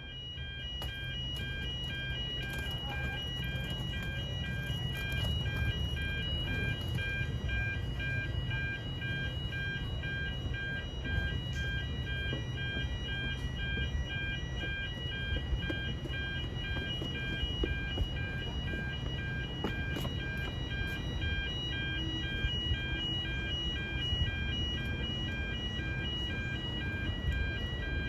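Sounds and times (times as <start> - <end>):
crossing warning bell dinging: 0.0 - 28.0.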